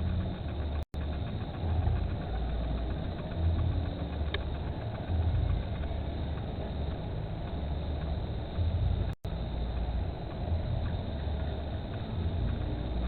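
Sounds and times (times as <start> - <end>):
low uneven rumble: 0.0 - 13.0.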